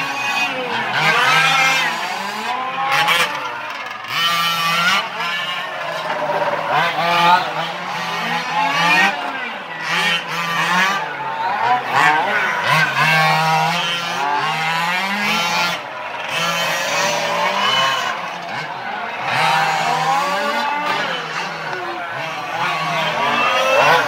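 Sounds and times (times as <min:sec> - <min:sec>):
small petrol engines revving: 0:00.0 - 0:24.0.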